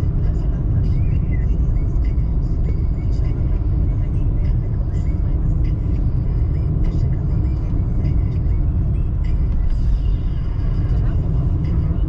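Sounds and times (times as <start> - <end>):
car engine drone: 0.0 - 12.0
tyre roar on road: 0.0 - 12.0.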